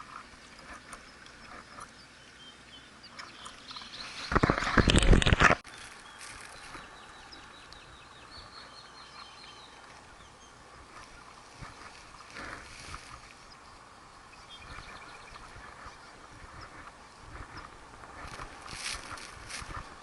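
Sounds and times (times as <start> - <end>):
outdoor hush: 0.0 - 20.0
small birds chirping: 0.0 - 20.0.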